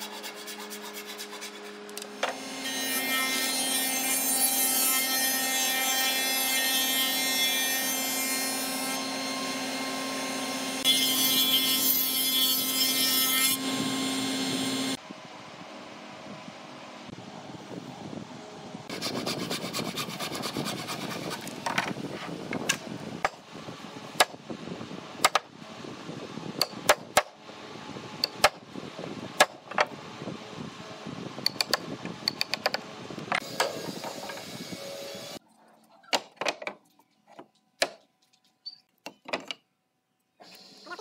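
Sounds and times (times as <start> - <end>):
workshop hum: 0.0 - 41.0.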